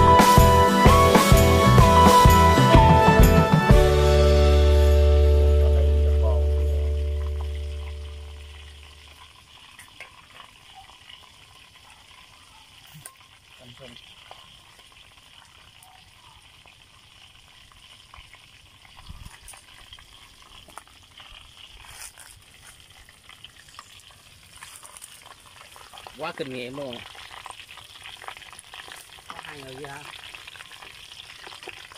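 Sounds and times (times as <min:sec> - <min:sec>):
oil sizzling in a wok: 0:03.9 - 0:31.9.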